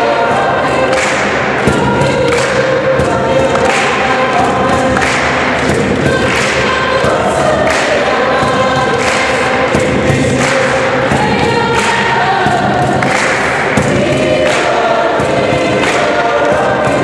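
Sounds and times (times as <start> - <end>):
choir singing gospel: 0.0 - 17.0
repeated thumps: 0.2 - 17.0.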